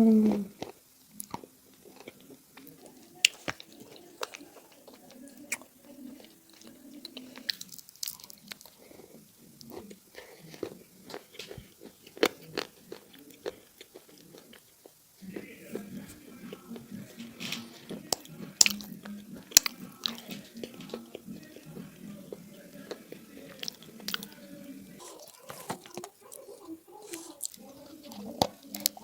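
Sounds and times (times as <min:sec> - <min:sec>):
clay being bitten and chewed: 0:00.6 - 0:16.8, 0:18.1 - 0:24.4, 0:25.0 - 0:26.4.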